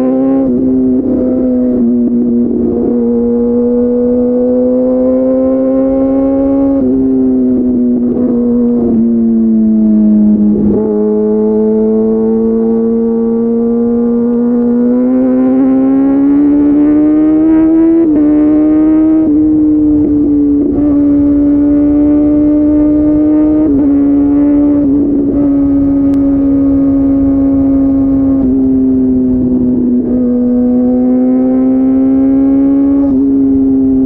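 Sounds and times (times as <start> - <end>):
motorcycle engine running loud: 0.0 - 34.0.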